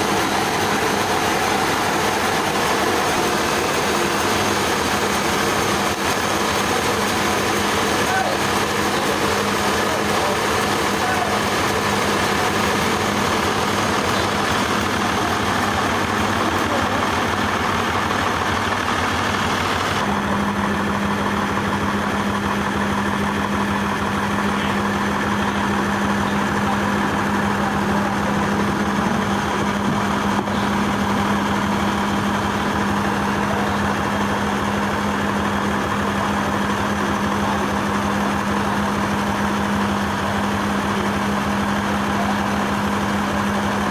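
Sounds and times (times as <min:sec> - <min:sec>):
sawmill machinery humming: 0:00.0 - 0:43.9.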